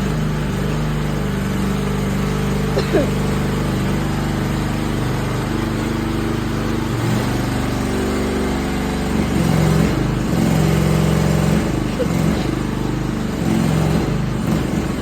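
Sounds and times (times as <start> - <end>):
excavator diesel engine droning: 0.0 - 15.0.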